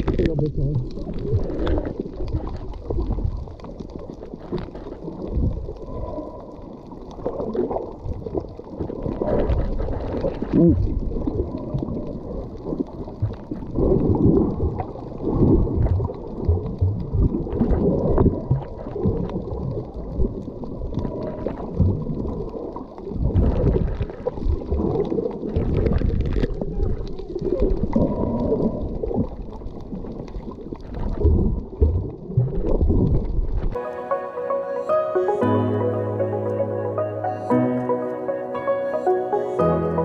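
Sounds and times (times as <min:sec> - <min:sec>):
underwater water surging and gurgling: 0:00.0 - 0:40.0.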